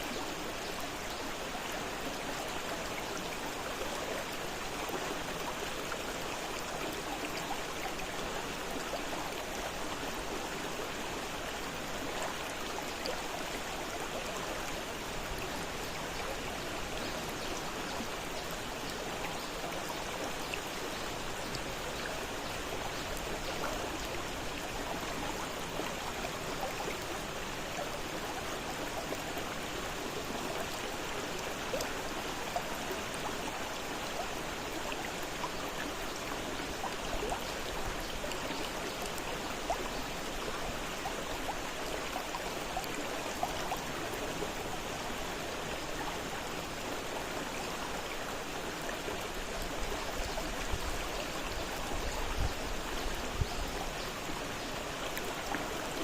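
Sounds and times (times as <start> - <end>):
river water rushing and splashing: 0.0 - 56.0.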